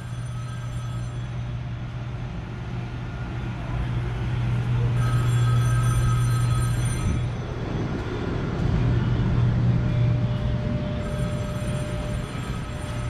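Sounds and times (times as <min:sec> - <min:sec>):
machinery humming and rushing: 0:00.0 - 0:13.0.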